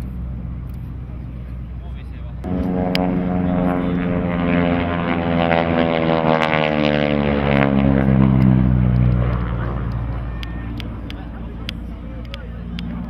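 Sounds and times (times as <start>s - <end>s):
propeller aircraft drone passing: 0.0s - 13.0s.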